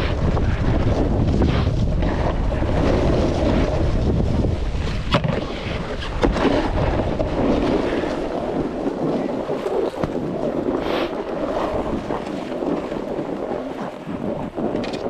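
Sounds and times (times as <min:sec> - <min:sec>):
snowboard sliding on snow: 0:00.0 - 0:14.8
wind buffeting microphone: 0:00.0 - 0:15.0.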